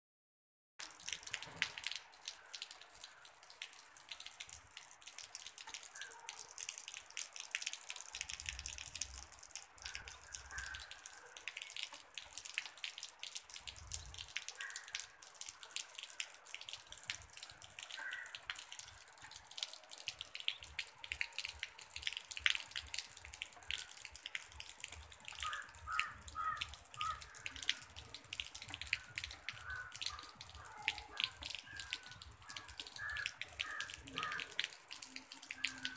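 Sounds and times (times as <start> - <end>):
close sharp drips pattering: 0.8 - 35.9
steady hiss of rain: 0.8 - 35.9.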